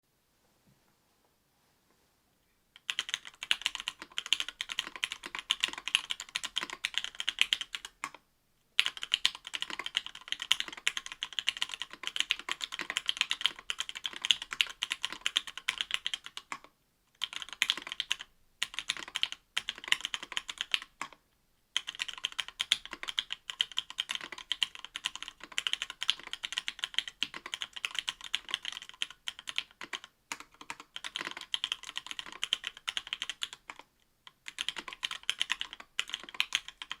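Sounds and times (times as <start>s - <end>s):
fast typing on mechanical keyboard: 2.8s - 8.2s, 8.8s - 21.2s, 21.8s - 37.0s.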